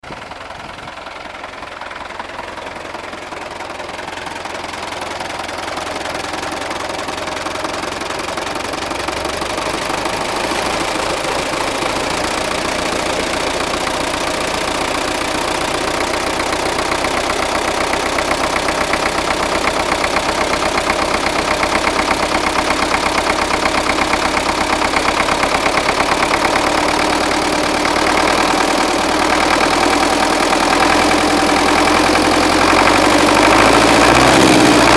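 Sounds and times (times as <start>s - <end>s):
diesel tractor engine knocking: 0.0s - 34.9s.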